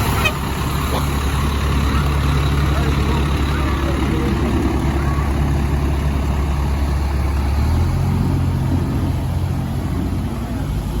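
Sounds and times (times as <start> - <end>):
fire engine diesel engine: 0.0 - 11.0.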